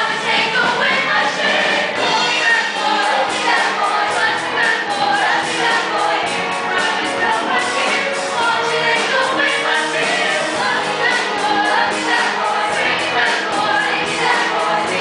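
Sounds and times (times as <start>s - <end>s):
musical accompaniment with steady beat: 0.0s - 15.0s.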